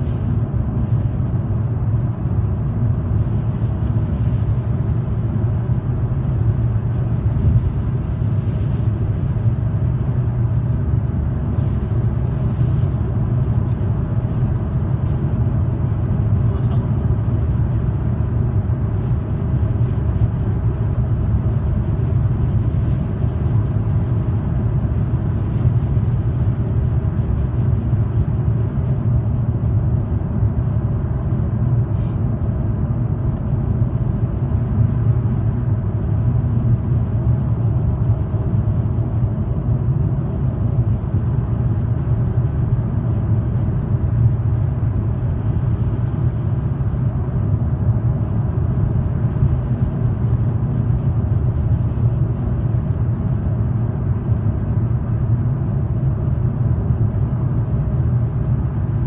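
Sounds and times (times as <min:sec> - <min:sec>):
car cabin road noise: 0:00.0 - 0:59.0.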